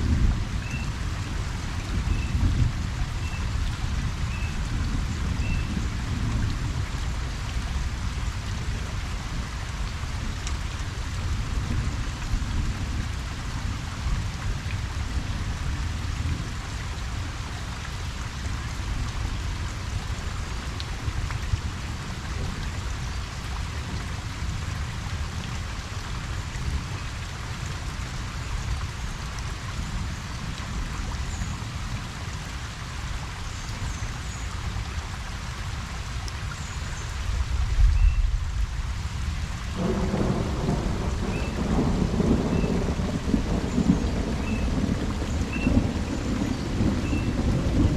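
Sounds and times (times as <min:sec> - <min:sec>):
rain pattering on pond: 0:00.0 - 0:47.9.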